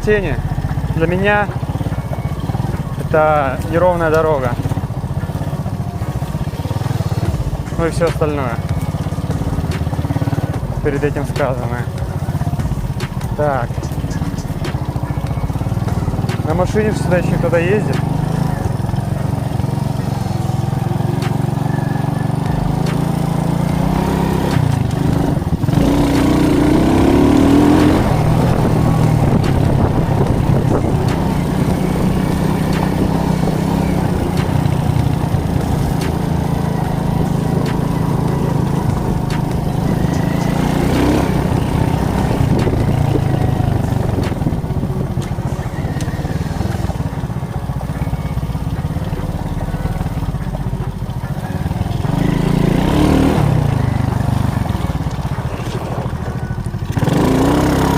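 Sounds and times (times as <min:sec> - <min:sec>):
moped engine humming: 0:00.0 - 0:57.9.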